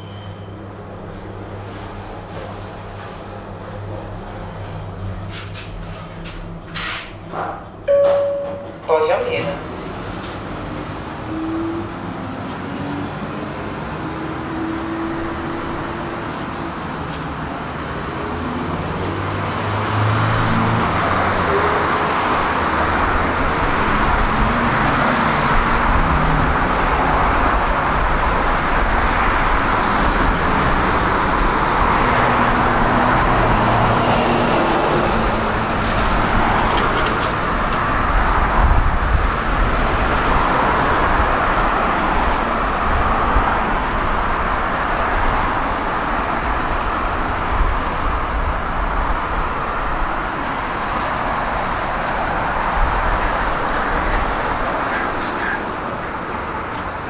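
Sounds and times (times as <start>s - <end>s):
road traffic: 0.0s - 57.0s
vehicles passing by: 0.0s - 57.0s.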